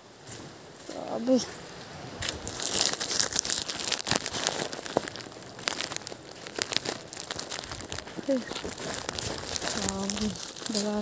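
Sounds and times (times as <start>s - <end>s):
close crackling and crunching: 0.8s - 11.0s.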